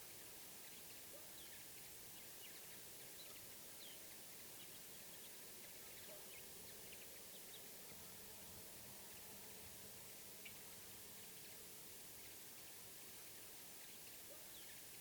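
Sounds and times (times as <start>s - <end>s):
quiet outdoor hiss: 0.0s - 15.0s.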